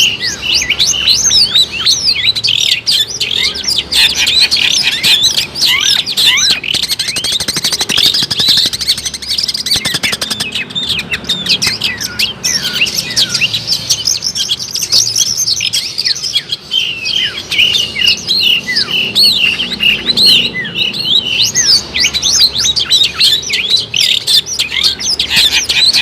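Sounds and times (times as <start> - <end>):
shrike singing: 0.0 - 26.0.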